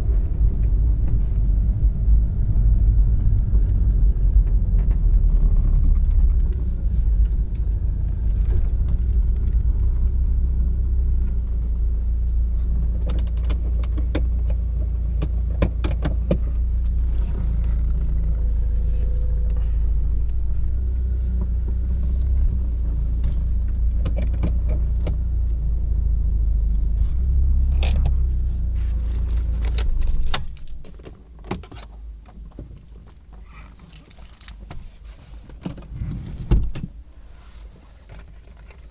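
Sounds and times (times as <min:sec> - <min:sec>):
car engine idling: 0:00.0 - 0:31.4.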